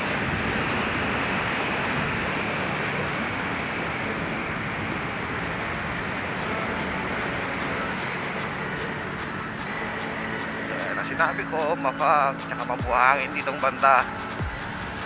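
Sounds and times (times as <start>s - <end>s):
scooter engine hum: 0.0s - 15.0s
wind rushing over microphone: 0.0s - 15.0s.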